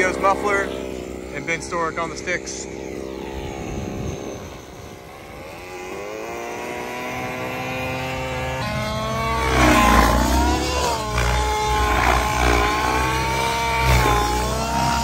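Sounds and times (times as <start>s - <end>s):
model helicopter engine: 0.0s - 15.0s.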